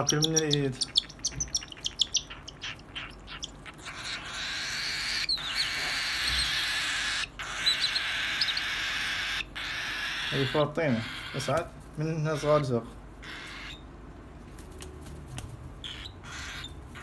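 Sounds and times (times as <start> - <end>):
cockatiels chirping: 0.0 - 13.9, 15.8 - 17.0.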